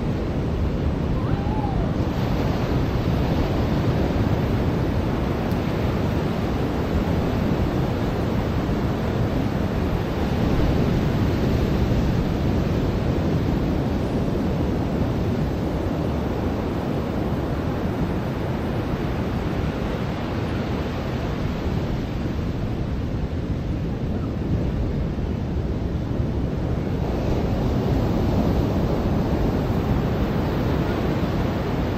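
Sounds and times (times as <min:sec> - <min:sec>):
ocean surf washing onto beach: 0:00.0 - 0:31.9
wind rumble on microphone: 0:00.0 - 0:31.9.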